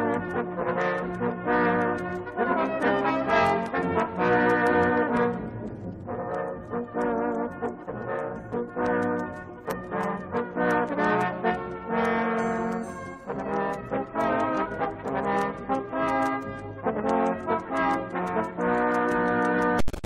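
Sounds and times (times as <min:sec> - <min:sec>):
instrumental music of held notes: 0:00.0 - 0:19.8.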